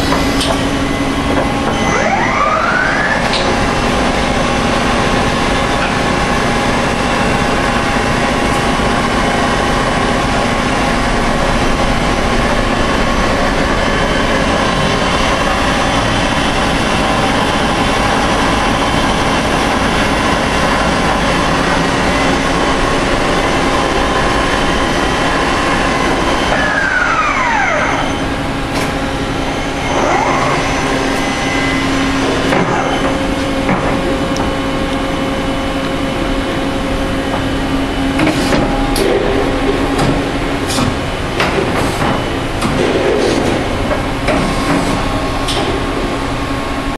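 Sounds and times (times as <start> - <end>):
machine whining tones: 0.0 - 46.9
machining center running: 0.0 - 46.9.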